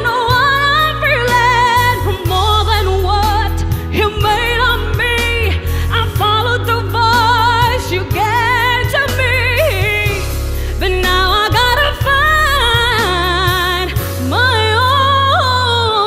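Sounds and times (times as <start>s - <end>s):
instrumental backing with bass: 0.0s - 16.0s
woman singing pop song: 0.0s - 16.0s.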